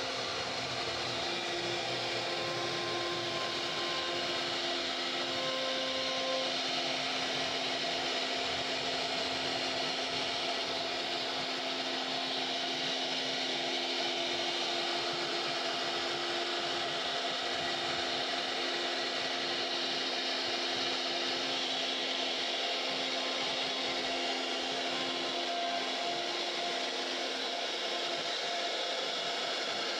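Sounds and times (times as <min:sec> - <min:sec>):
router spindle whining: 0:00.0 - 0:29.9.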